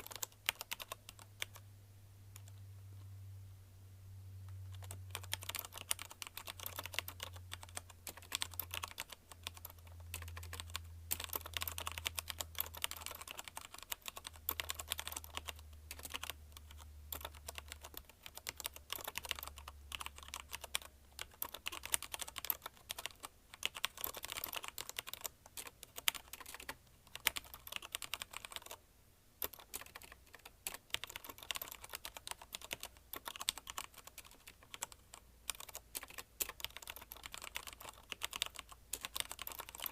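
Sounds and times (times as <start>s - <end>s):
typing on mechanical keyboard: 0.0s - 1.6s, 2.4s - 2.6s, 4.7s - 28.8s, 29.4s - 39.9s.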